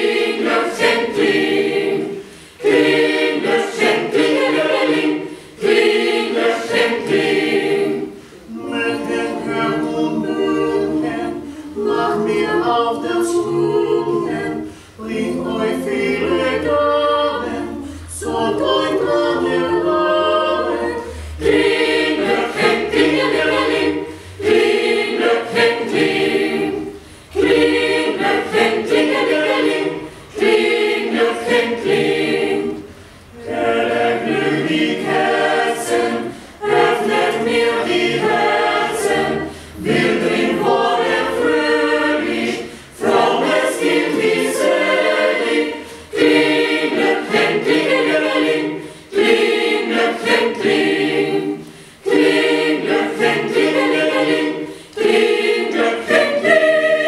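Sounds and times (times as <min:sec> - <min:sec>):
mixed choir singing a cappella: 0:00.0 - 0:57.0.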